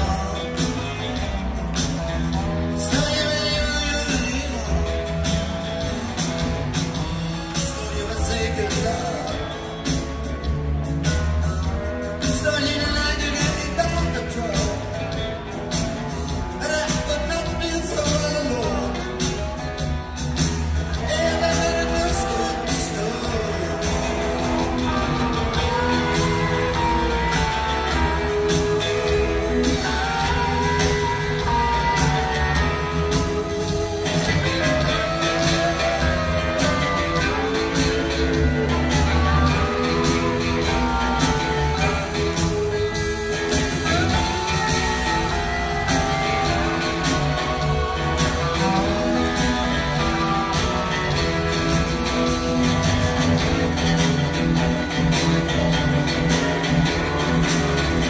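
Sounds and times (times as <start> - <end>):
electric guitar lead notes: 0.0 - 58.0
live rock band playing: 0.0 - 58.0.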